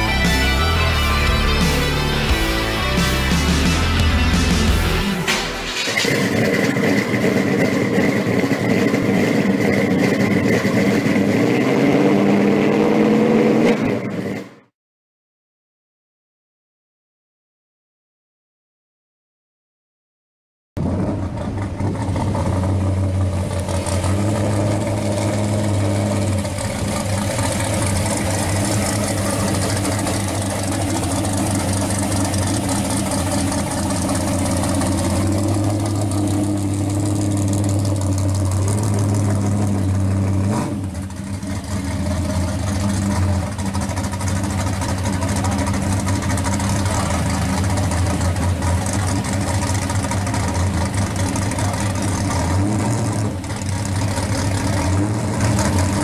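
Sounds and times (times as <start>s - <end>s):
car engine rumbling: 0.0s - 14.6s, 20.8s - 56.0s.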